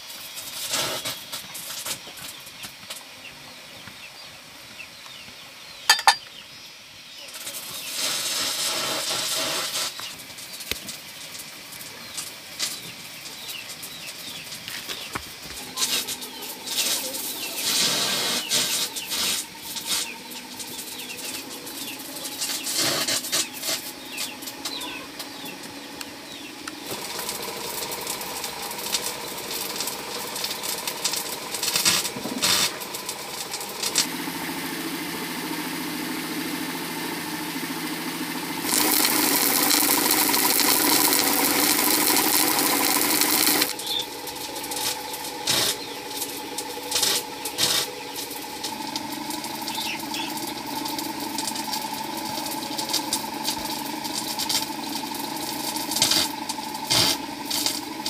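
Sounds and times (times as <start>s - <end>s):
small engine running: 7.3s - 58.0s.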